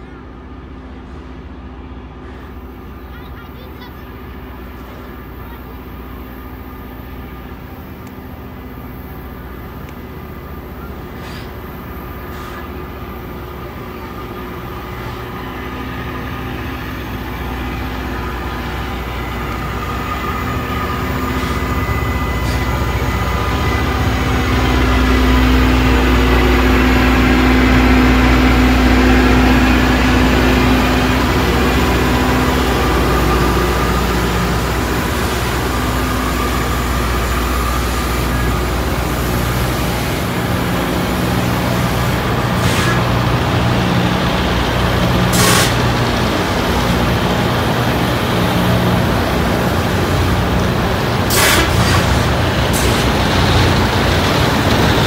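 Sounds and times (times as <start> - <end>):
train diesel engines humming: 0.0 - 55.0.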